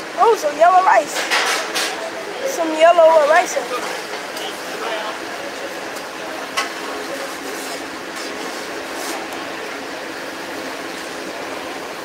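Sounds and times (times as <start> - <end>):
restaurant background din: 1.0 - 11.4.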